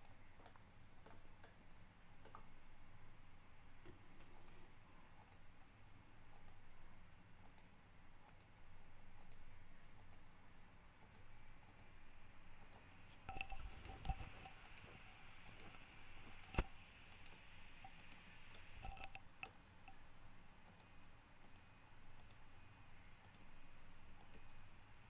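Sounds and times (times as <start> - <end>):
computer mouse clicking: 0.0 - 1.6, 2.2 - 2.6, 3.8 - 20.0, 20.6 - 24.8
faint room noise: 0.0 - 25.0.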